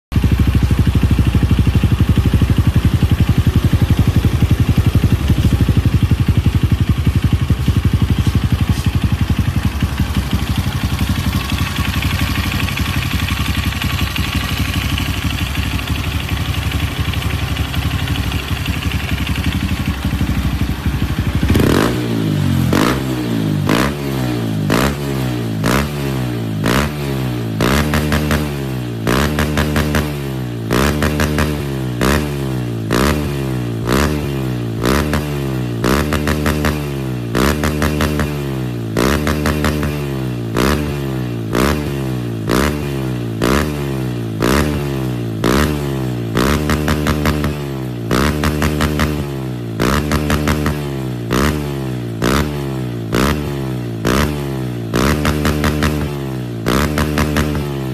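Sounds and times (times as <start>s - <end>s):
motorcycle engine idling: 0.1s - 57.9s
motorcycle engine revving: 0.1s - 57.9s.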